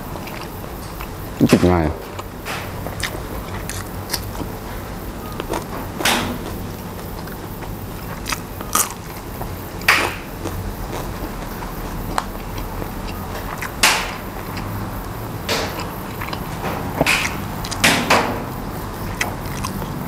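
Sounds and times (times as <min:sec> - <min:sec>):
person chewing crunchy food: 0:00.0 - 0:01.5, 0:02.1 - 0:17.8, 0:18.4 - 0:20.0.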